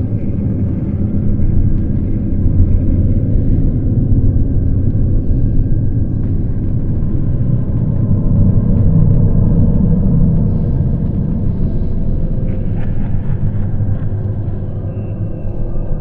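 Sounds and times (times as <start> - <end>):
low rumble drone: 0.0 - 16.0.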